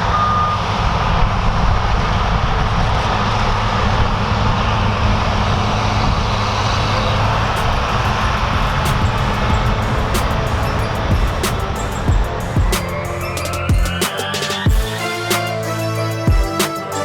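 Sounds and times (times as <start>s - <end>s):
diesel machinery engine hum: 0.0s - 14.6s.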